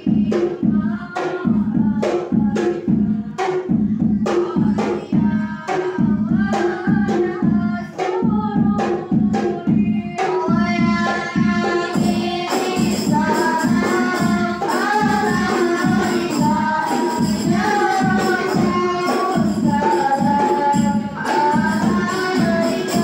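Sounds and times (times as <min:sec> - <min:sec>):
children singing in unison: 0:00.0 - 0:23.0
frame drums beating: 0:00.0 - 0:23.0.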